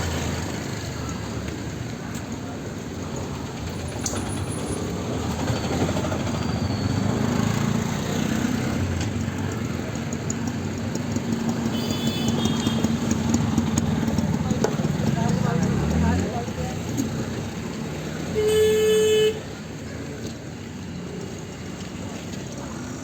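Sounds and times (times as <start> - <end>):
street traffic engines: 0.0 - 23.0.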